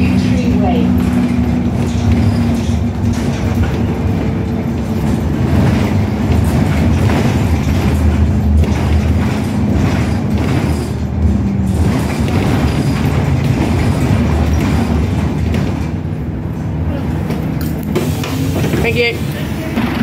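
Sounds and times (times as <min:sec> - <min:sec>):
bus body rattling: 0:00.0 - 0:20.0
bus engine rumbling: 0:00.0 - 0:20.0.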